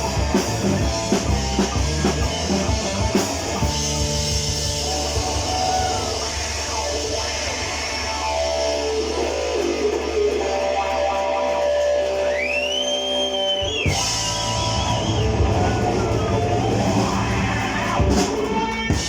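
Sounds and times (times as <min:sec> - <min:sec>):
bass guitar: 0:00.0 - 0:19.0
electric guitar: 0:00.0 - 0:19.0.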